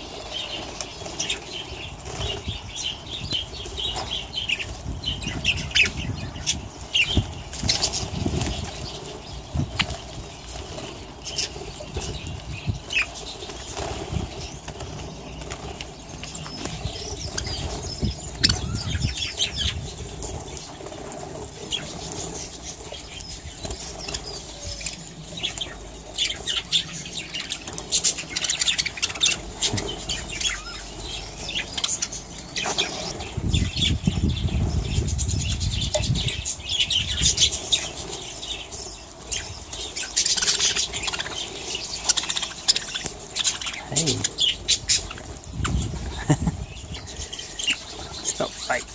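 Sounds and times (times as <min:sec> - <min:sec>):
budgerigars chirping and chattering: 0:00.0 - 0:48.9
wings flapping: 0:00.0 - 0:48.9.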